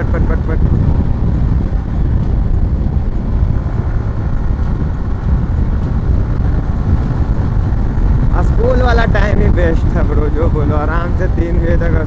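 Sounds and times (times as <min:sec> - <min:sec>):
motorcycle engine cruising: 0:00.0 - 0:12.0
wind rushing over microphone: 0:00.0 - 0:12.0.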